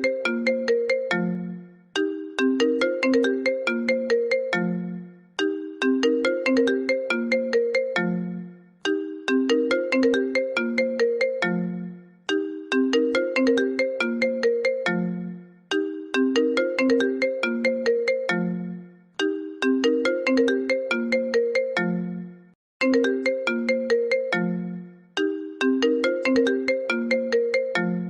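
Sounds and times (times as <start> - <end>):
phone ringtone melody: 0.0 - 28.0.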